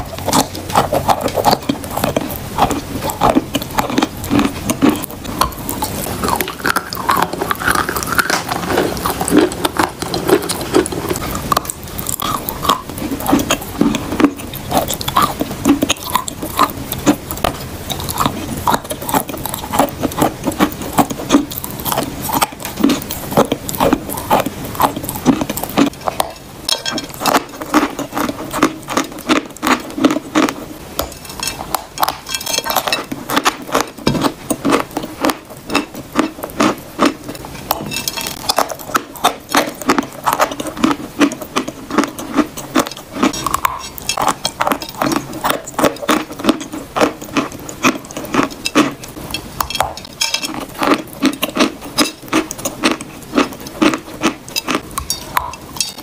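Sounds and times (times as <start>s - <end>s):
chewing crunchy chalk: 0.0s - 56.0s.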